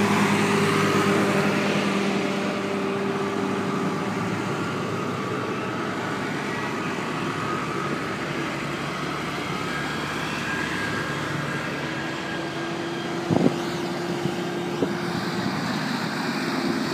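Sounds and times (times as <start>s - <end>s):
tractor diesel engines: 0.0s - 16.9s.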